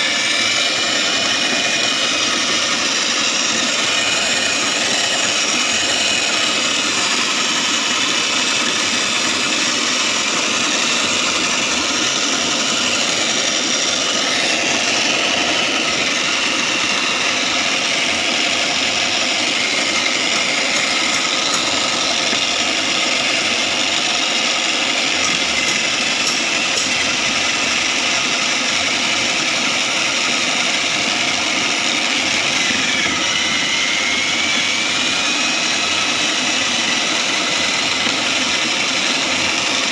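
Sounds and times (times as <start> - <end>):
shredding machine motor whine: 0.0 - 39.9.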